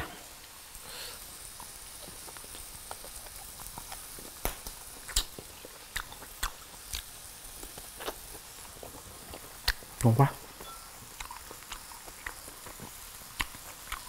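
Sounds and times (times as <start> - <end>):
faint steady hiss: 0.0 - 14.0
chewing with lip smacks: 1.6 - 14.0.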